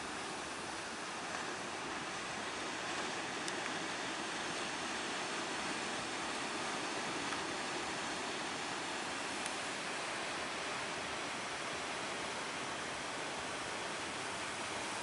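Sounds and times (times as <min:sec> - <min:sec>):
surf and choppy sea water: 0:00.0 - 0:15.0.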